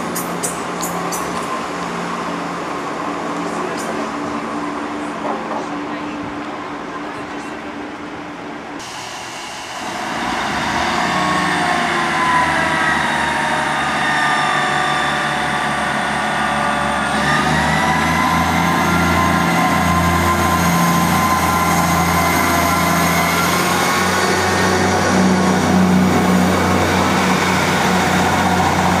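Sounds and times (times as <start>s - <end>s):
diesel train engine: 0.0s - 29.0s.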